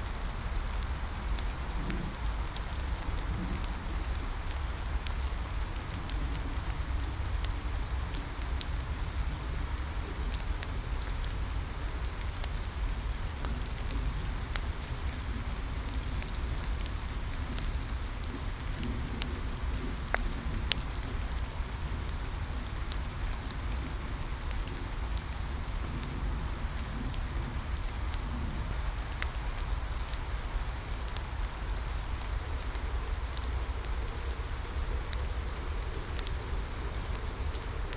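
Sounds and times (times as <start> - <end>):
rain falling: 0.0 - 37.9
wood fire crackling and popping: 0.0 - 37.9.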